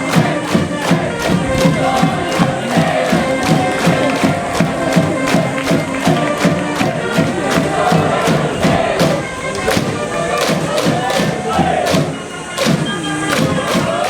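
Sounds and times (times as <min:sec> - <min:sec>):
band music: 0:00.0 - 0:14.0
crowd chanting: 0:00.0 - 0:14.0
quick drum beat: 0:00.0 - 0:14.0.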